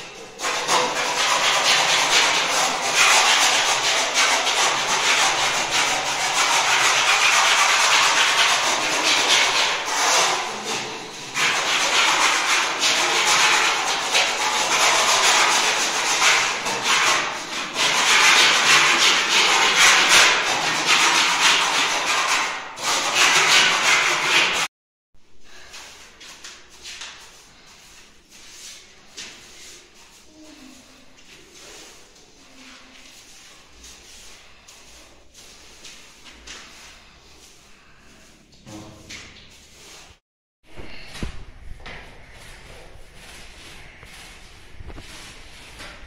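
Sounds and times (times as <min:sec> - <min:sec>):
scraping plaster wall: 0:00.0 - 0:24.7, 0:25.5 - 0:46.0.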